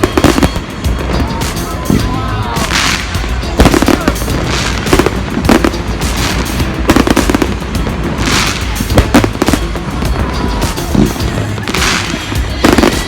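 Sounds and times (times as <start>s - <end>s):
background music: 0.0s - 13.0s
fireworks bangs and crackling: 0.0s - 13.0s.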